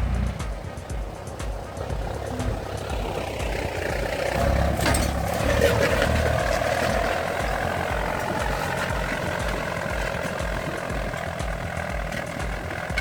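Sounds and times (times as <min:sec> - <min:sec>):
tractor diesel engine throbbing: 0:00.0 - 0:13.0.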